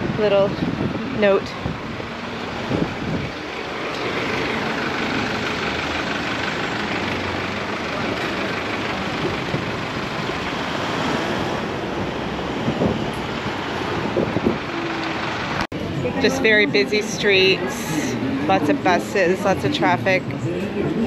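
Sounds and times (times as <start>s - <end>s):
cars and buses driving past: 0.0s - 21.0s.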